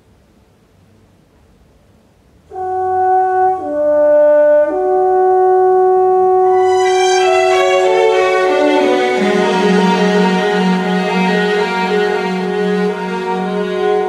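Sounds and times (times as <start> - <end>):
loud held chords: 2.5 - 14.0.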